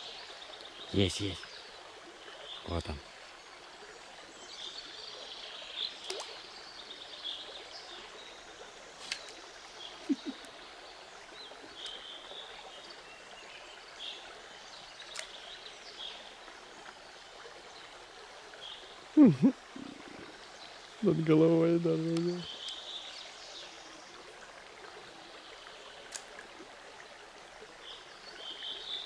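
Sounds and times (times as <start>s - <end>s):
river water flowing: 0.0s - 29.0s.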